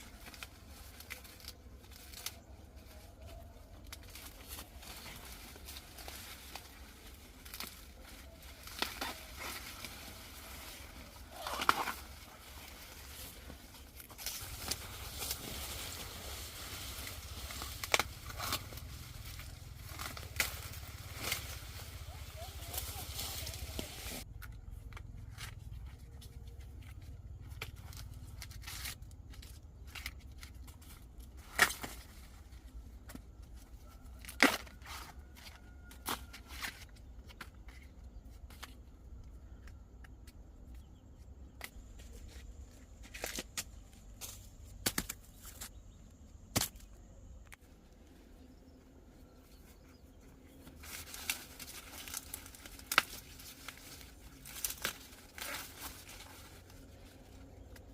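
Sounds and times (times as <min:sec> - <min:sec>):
low outdoor rumble: 0:00.0 - 0:57.9.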